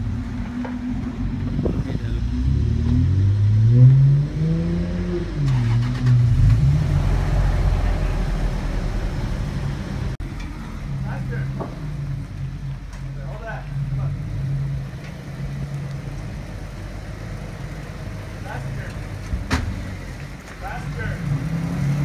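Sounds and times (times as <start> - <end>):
low rumble: 0.0 - 20.4
off-road vehicle engine revving: 0.0 - 22.0.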